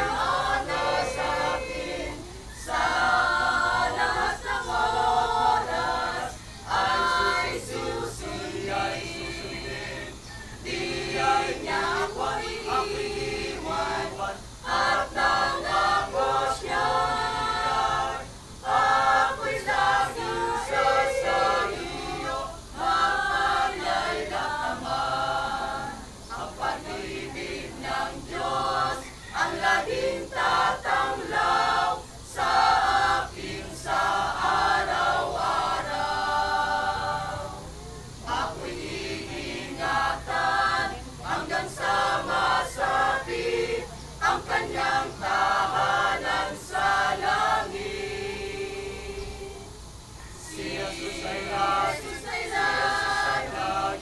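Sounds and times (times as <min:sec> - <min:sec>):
mixed choir singing a worship song: 0:00.0 - 0:54.0.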